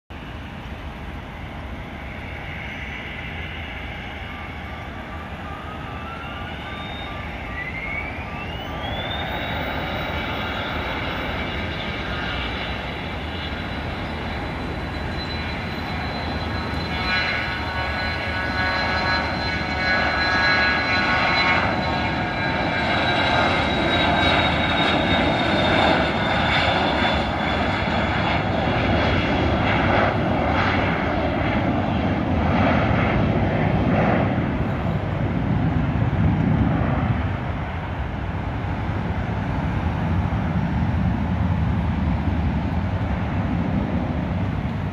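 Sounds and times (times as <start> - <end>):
jet engine whine: 0.1 - 44.9
jet engines spooling up: 0.2 - 44.9.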